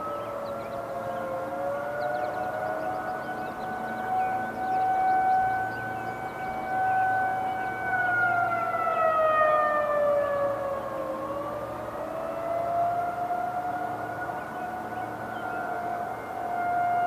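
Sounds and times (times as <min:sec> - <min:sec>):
distant warning sirens: 0:00.0 - 0:17.0.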